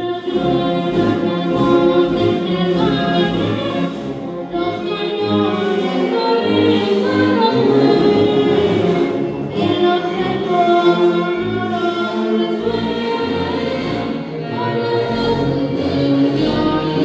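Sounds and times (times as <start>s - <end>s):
choir singing: 0.0s - 17.0s
orchestral accompaniment: 0.0s - 17.0s
pulsing bass line: 0.0s - 17.0s.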